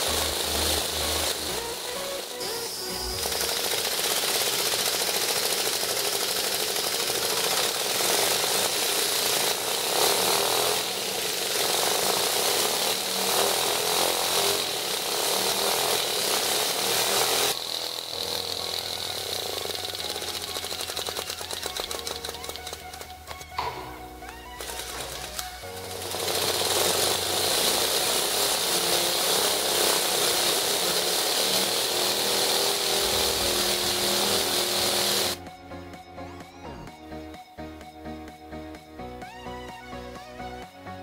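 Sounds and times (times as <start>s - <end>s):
jet-torch lighter hissing: 0.0s - 35.4s
small engine mechanical ticking: 0.0s - 35.4s.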